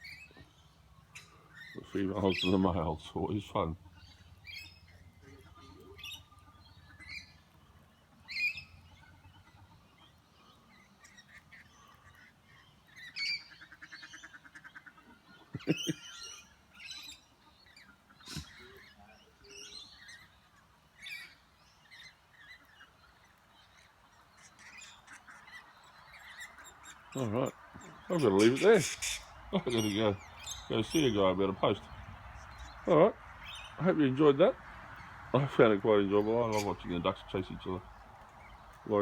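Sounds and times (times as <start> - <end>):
birds chirping and screeching: 0.0 - 39.0
low bird call: 3.8 - 39.0.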